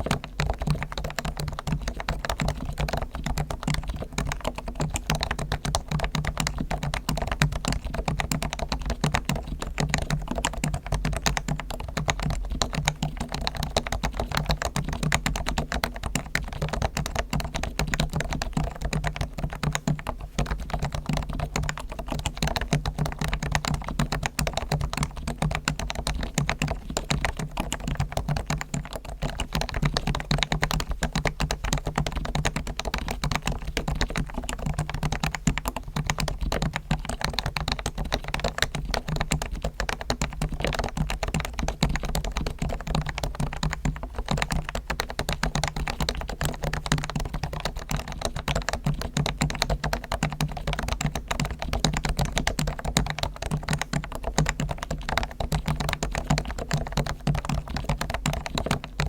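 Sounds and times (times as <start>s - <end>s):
fast keyboard typing: 0.0s - 59.0s.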